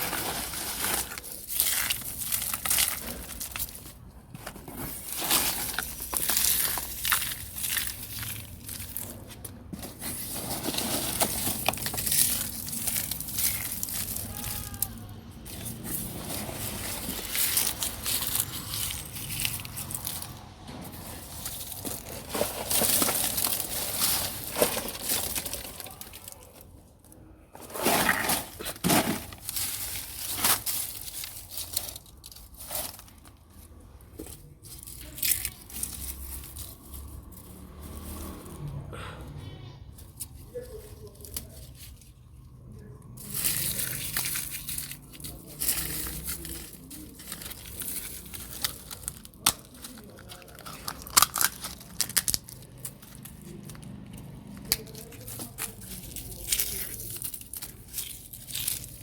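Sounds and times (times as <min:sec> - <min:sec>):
eggshells being crushed by hand: 0:00.0 - 0:38.5, 0:41.2 - 0:59.0.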